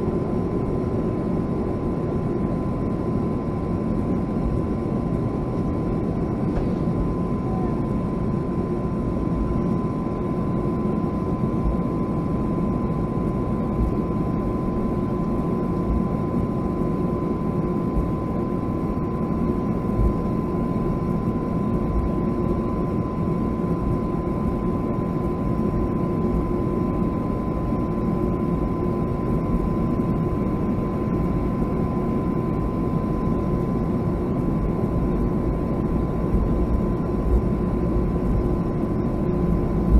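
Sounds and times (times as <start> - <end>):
jet engine whine: 0.0 - 39.9
jet engines deep rumble: 0.0 - 39.9.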